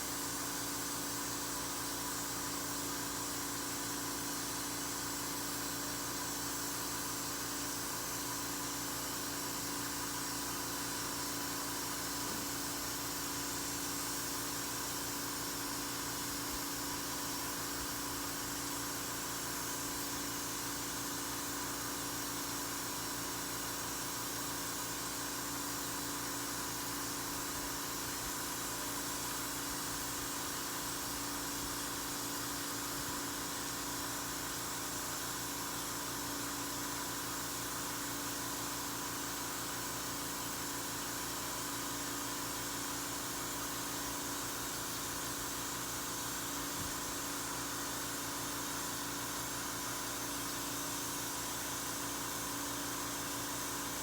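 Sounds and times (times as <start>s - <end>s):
steady machine hiss and hum: 0.0s - 54.0s.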